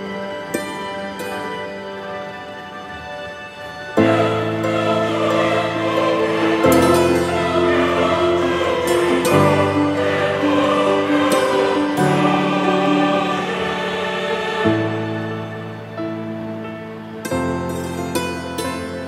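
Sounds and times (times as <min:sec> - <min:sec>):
slow held music chords: 0:00.0 - 0:19.0.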